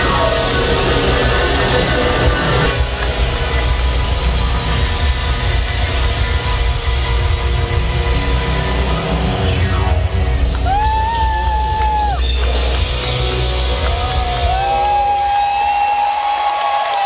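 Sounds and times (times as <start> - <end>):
live rock band playing: 0.0 - 14.8.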